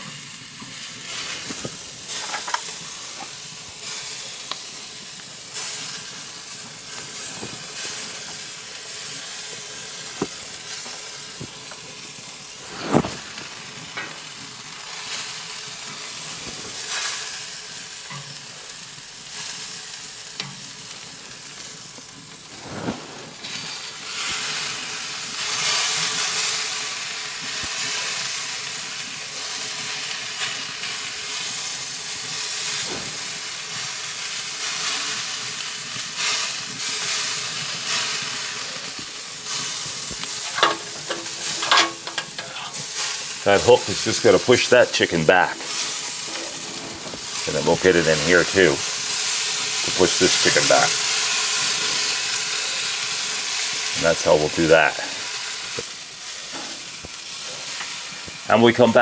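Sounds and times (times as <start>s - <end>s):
wood fire hissing and sizzling: 0.0s - 59.0s.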